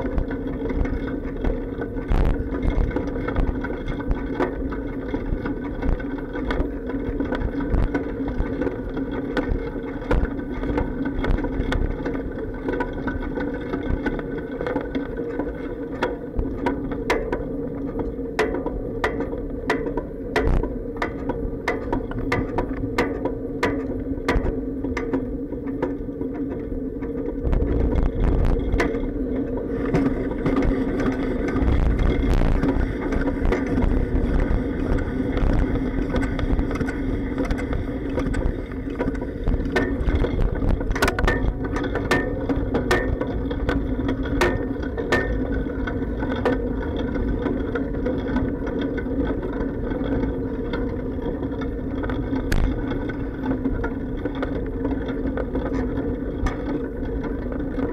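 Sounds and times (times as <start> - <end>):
bicycle frame clacks and bumps: 0.0 - 57.9
bicycle riding hum: 0.0 - 57.9
low rumbles: 0.0 - 57.9.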